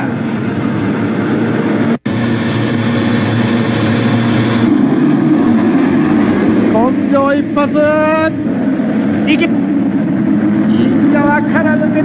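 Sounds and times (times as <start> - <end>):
motocross bike engines revving: 1.1 - 12.0.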